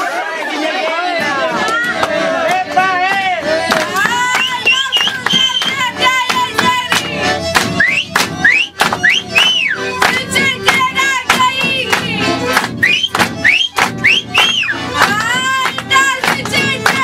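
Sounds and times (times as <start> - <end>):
accordion folk tune: 0.0 - 17.0.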